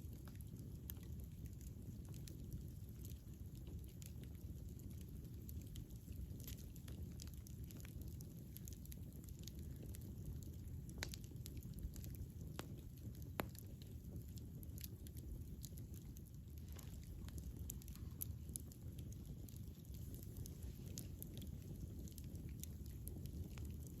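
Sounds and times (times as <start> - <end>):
flames rumbling: 0.0 - 24.0
wood fire crackling: 0.0 - 24.0.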